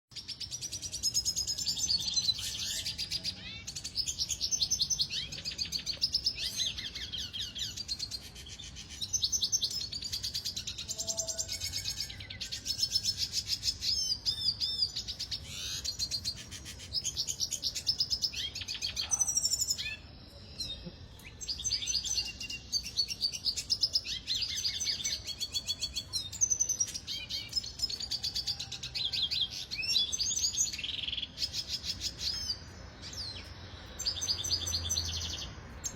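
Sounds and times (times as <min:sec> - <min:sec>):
bird twittering song: 0:00.1 - 0:35.9.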